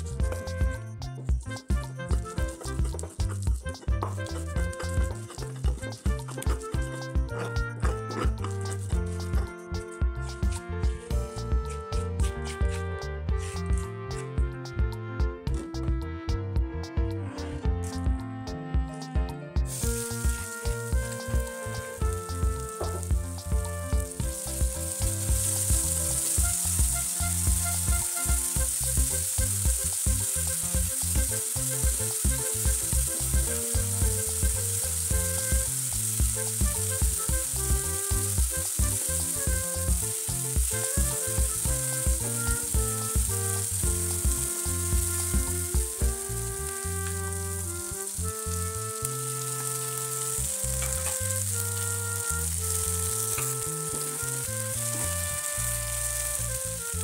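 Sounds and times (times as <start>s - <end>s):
paste sizzling in hot oil: 0.0s - 12.8s, 19.7s - 57.0s
background music with beat: 0.0s - 57.0s.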